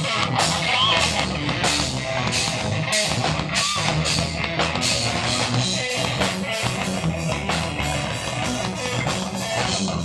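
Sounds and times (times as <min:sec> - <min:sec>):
amplified electric guitar: 0:00.0 - 0:10.0
dense steady drumming: 0:00.0 - 0:10.0
heavy rock band playing: 0:00.0 - 0:10.0.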